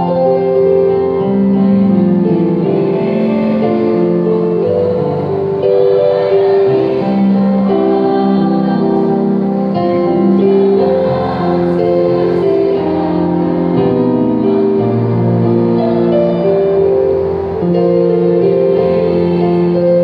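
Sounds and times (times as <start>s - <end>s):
electronic keyboard: 0.0s - 20.0s
mixed choir singing: 2.2s - 20.0s.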